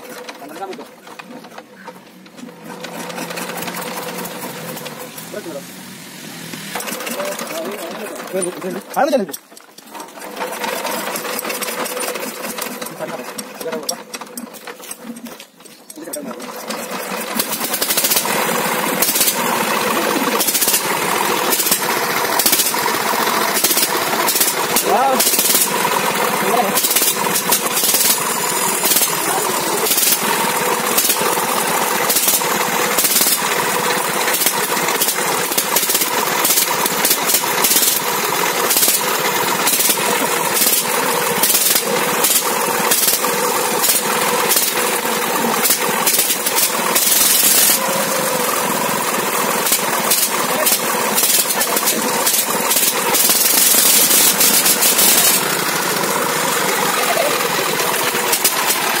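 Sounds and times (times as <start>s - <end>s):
tiller engine hammering clatter: 0.0s - 59.0s.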